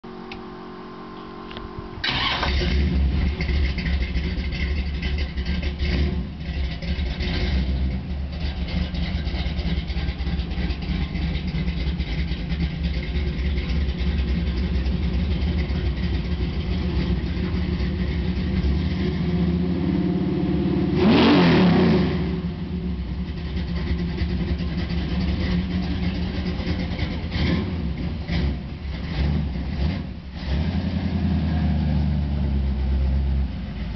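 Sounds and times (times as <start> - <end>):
engine revving: 0.0 - 33.9
truck engine starting and idling: 0.0 - 33.9.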